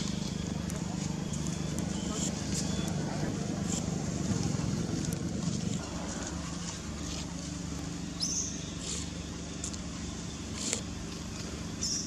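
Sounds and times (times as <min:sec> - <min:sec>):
distant engine drone: 0:00.0 - 0:12.0.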